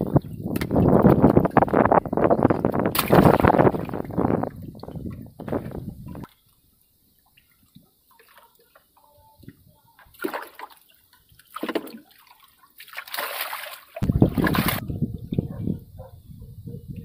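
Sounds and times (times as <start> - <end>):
water splashing and sloshing: 0.0 - 14.9.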